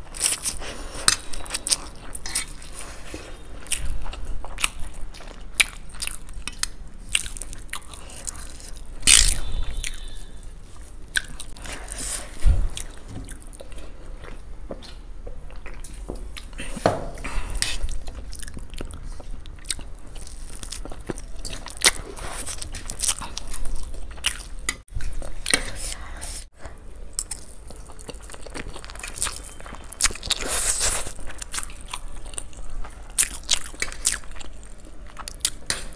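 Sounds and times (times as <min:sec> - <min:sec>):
people chewing food: 0:00.0 - 0:35.9.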